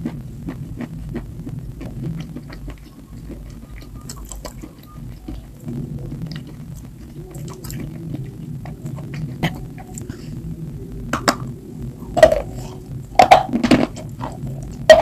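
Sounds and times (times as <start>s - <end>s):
close chewing: 0.0s - 15.0s
low steady hum: 0.0s - 15.0s.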